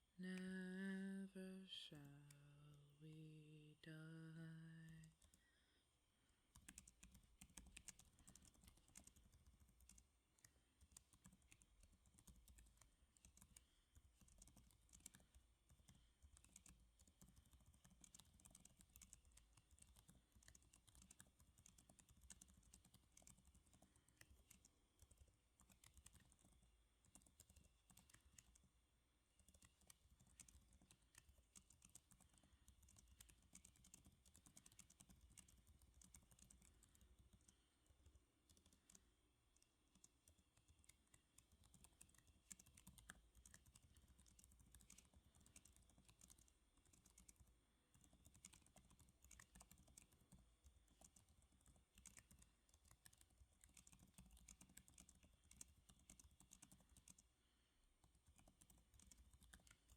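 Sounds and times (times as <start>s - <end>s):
typing on computer keyboard: 4.2s - 5.6s, 6.5s - 28.7s, 29.4s - 57.3s, 58.0s - 59.9s.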